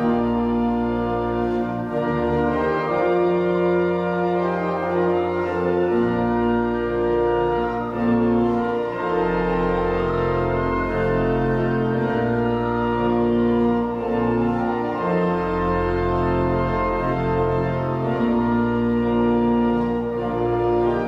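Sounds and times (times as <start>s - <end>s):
pipe organ playing chords: 0.0s - 21.0s.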